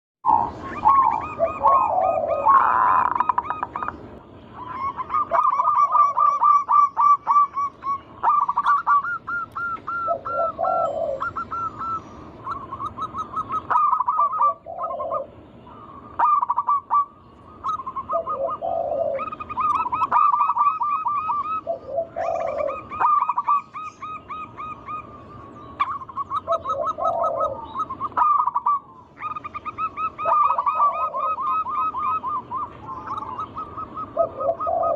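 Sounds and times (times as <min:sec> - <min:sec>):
doves singing: 0:00.2 - 0:34.9.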